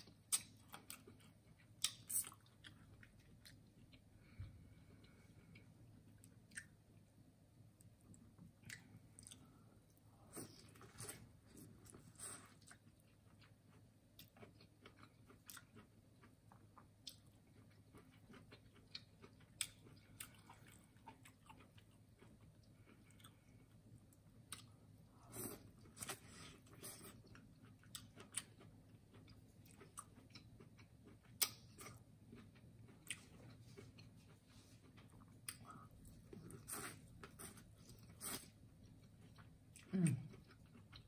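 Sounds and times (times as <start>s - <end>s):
chewing and wet smacking: 0.0s - 7.1s, 7.8s - 41.0s.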